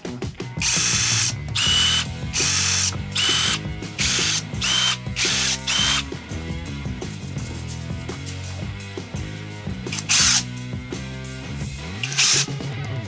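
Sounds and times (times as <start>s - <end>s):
impact driver whining: 0.4s - 10.8s, 11.6s - 13.0s.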